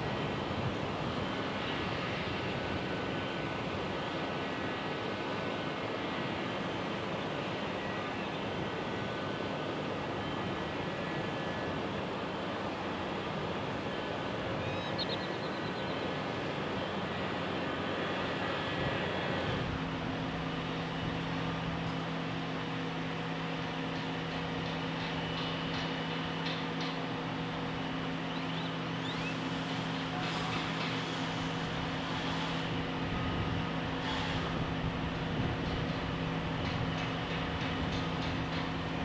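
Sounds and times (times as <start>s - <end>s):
constant noisy background: 0.0s - 39.0s
machinery hum: 0.0s - 39.0s.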